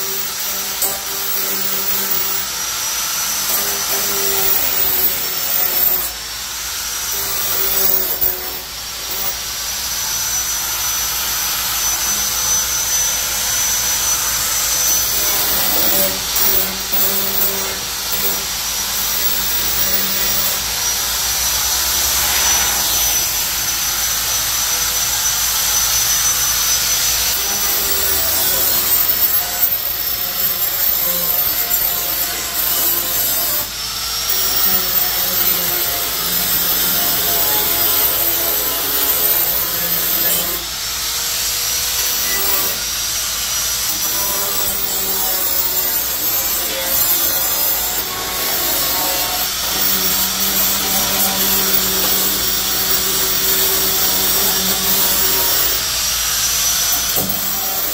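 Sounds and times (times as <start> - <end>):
electric grinder grinding metal: 0.0 - 57.9.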